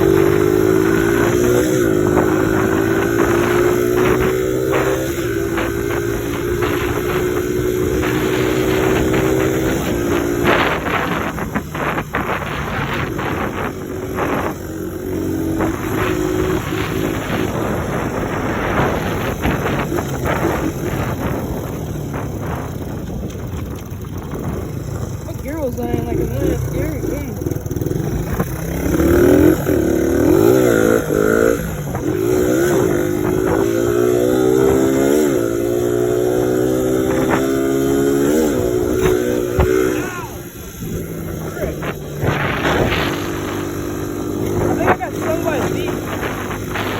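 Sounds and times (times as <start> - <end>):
dirt bike engine running: 0.0 - 46.9
wind buffeting microphone: 0.0 - 46.9.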